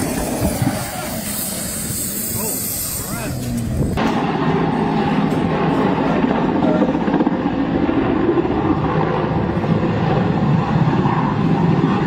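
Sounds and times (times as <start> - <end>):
helicopter flying low: 0.0 - 12.0.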